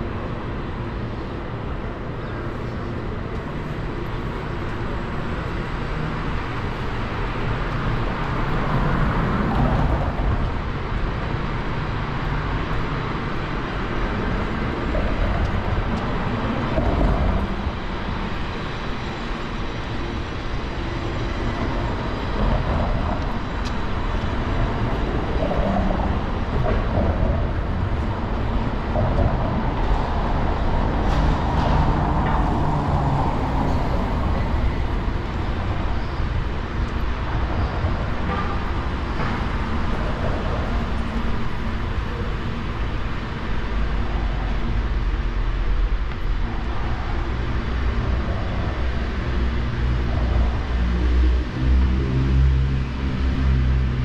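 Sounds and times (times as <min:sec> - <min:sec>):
passing vehicles rumbling: 0:00.0 - 0:54.0.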